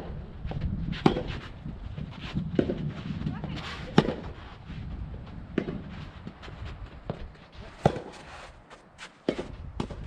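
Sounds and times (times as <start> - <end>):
tennis balls struck by rackets: 0.0 - 4.4, 5.4 - 8.3, 8.9 - 10.0
wind rumble on microphone: 0.0 - 8.7, 9.3 - 10.0.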